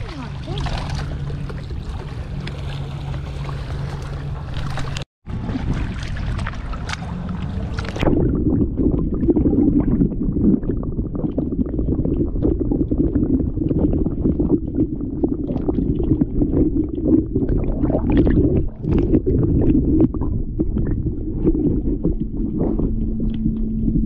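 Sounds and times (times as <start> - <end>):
underwater rumble of surging water: 0.0 - 24.0.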